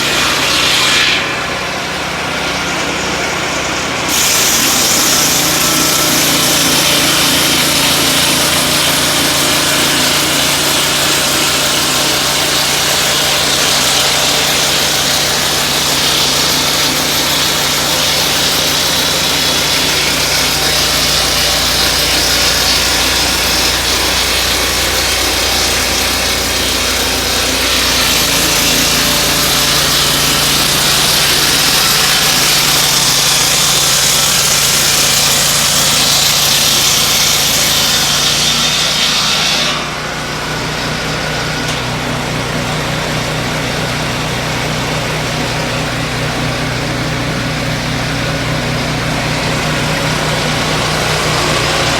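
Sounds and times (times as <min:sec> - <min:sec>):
portable sawmill cutting wood: 0:00.0 - 0:51.9.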